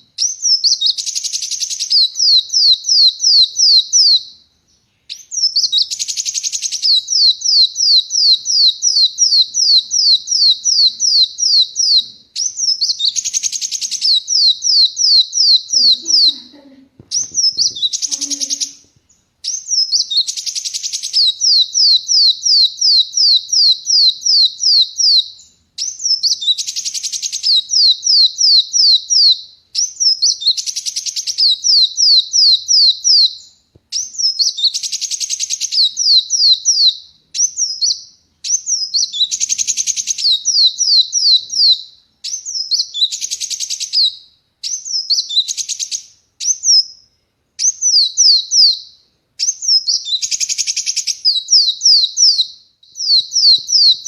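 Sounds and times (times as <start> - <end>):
sunbird singing: 0.0 - 54.0.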